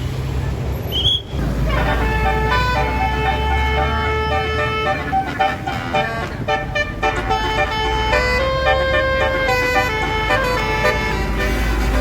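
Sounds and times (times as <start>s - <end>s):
bus engine rumble: 0.0s - 12.0s
multi-trumpet horn melody: 1.6s - 12.0s.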